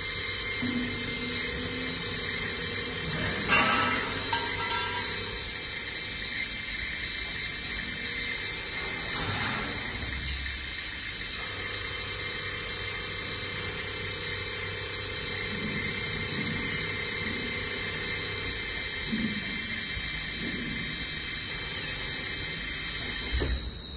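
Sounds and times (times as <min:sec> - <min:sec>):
lathe machine hum: 0:00.0 - 0:23.3.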